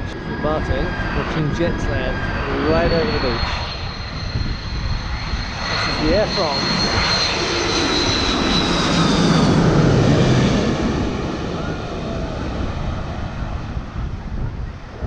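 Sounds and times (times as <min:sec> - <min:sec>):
jet airliner roar passing overhead: 0:00.0 - 0:15.0.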